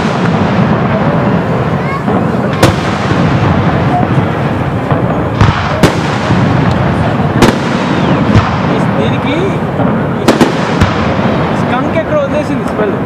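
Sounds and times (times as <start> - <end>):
fireworks booming bursts: 0.0 - 13.0
fireworks rumbling and crackling: 0.0 - 13.0.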